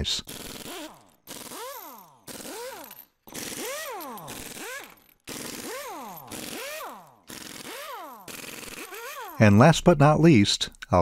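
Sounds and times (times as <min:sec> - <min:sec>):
electric screwdriver whirring: 0:00.3 - 0:09.4.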